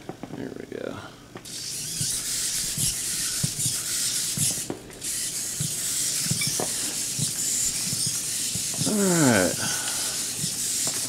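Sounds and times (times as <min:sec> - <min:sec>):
servos whirring with hiss: 0:01.4 - 0:11.0.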